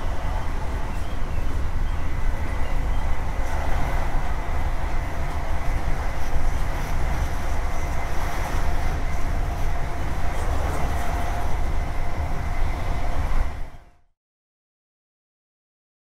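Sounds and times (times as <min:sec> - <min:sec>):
diesel train engine rumble: 0:00.0 - 0:14.1.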